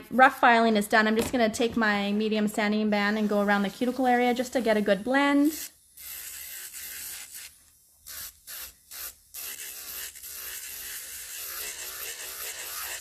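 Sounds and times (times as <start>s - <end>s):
electric nail drill sanding: 2.3s - 13.0s.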